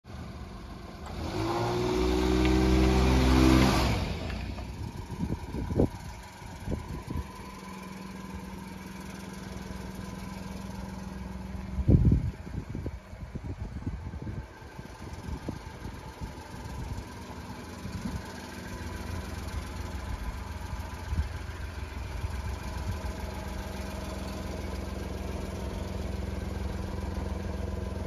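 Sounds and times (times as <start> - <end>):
small truck engine: 0.0 - 28.0.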